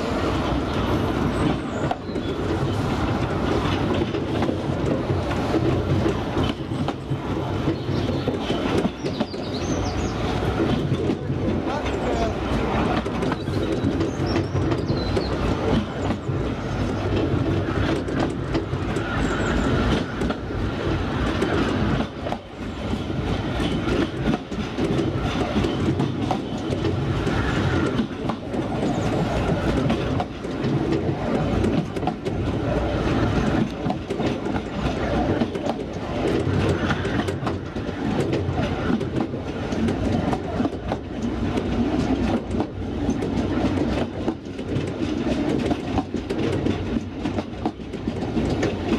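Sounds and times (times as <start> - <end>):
train rumbling: 0.0 - 48.9
wheels clicking over rail joints: 0.0 - 48.9.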